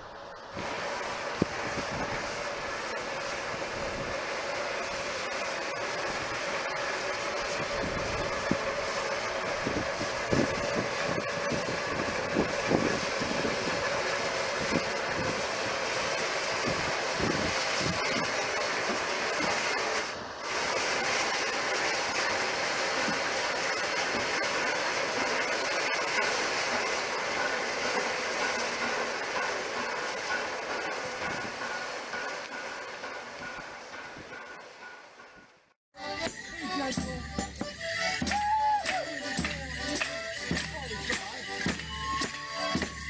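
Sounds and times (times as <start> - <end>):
steam hissing from locomotive: 0.0 - 43.0.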